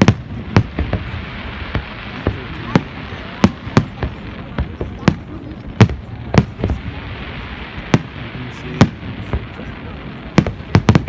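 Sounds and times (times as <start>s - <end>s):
fireworks exploding: 0.0s - 11.0s.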